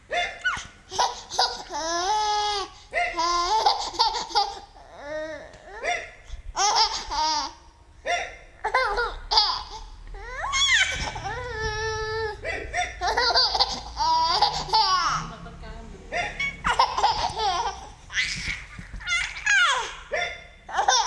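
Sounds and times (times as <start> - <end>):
baby squealing laughter: 0.2 - 15.2, 16.2 - 21.0.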